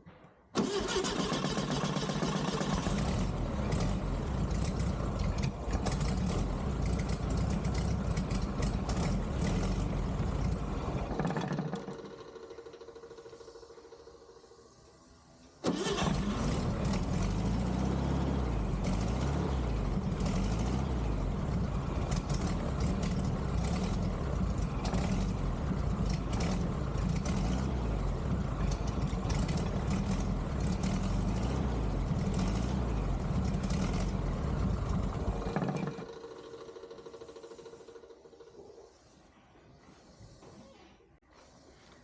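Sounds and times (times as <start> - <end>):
car engine running roughly: 0.6 - 14.2, 15.7 - 38.5.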